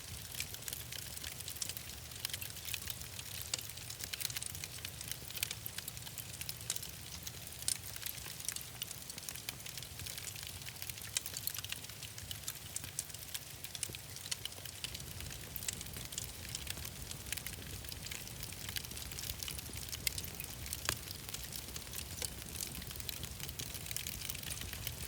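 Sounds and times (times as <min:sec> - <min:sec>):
wood fire crackling: 0:00.0 - 0:25.0
low rumble of flames: 0:00.1 - 0:25.0
sharp pops and snaps: 0:00.2 - 0:25.0.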